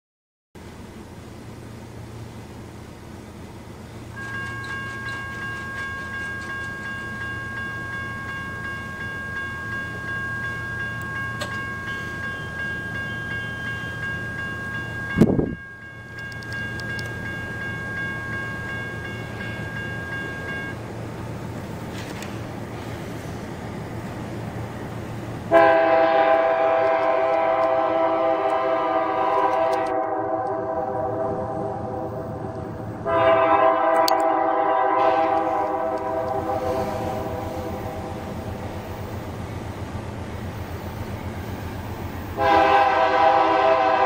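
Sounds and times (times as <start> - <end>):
railroad crossing bell ringing: 4.1 - 21.0, 24.8 - 44.0.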